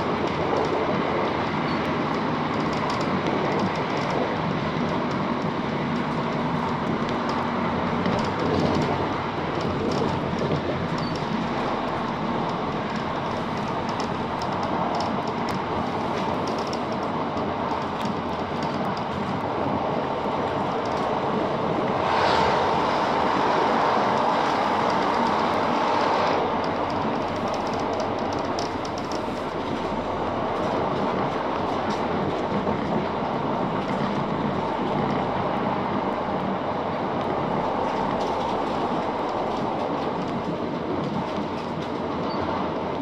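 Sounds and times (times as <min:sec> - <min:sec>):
faint rail clicks: 0:00.0 - 0:43.0
train wheels rumbling on rail: 0:00.0 - 0:43.0.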